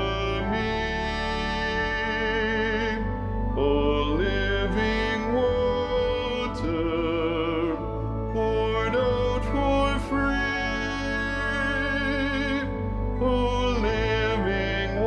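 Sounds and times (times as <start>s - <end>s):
instrumental accompaniment: 0.0s - 15.0s
soprano singing a hymn: 0.0s - 15.0s.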